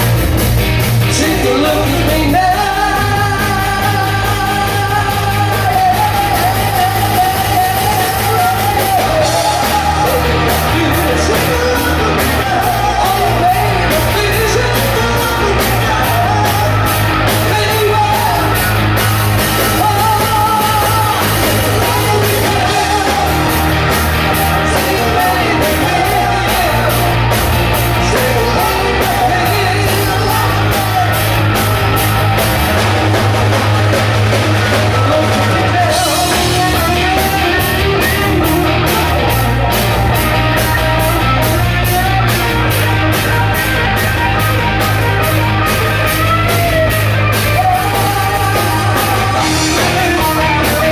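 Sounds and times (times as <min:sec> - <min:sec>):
bass notes: 0:00.0 - 0:50.9
drums and cymbals: 0:00.0 - 0:50.9
rock band playing: 0:00.0 - 0:50.9
man singing: 0:01.0 - 0:50.9.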